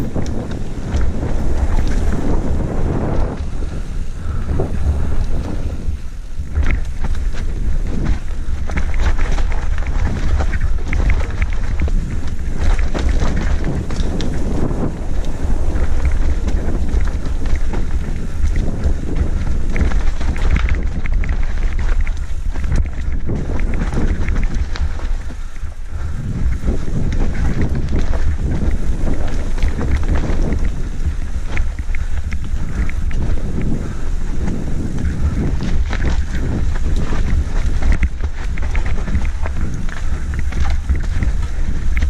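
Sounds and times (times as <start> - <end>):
bike rattles and knocks: 0.0 - 42.0
bike tyres on dirt trail: 0.0 - 42.0
wind buffeting microphone: 0.0 - 42.0.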